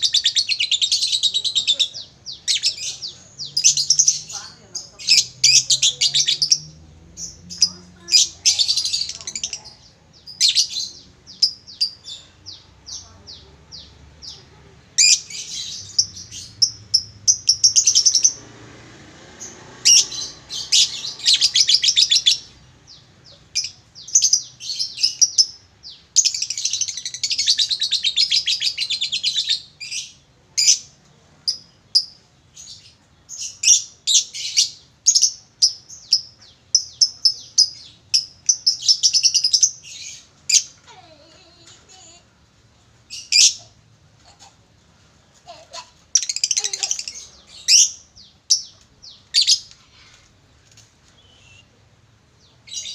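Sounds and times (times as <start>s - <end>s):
lovebird chirping and trilling: 0.0s - 18.4s, 19.4s - 30.9s, 31.5s - 40.8s, 43.1s - 44.5s, 45.4s - 50.2s, 51.1s - 51.8s, 52.5s - 52.9s.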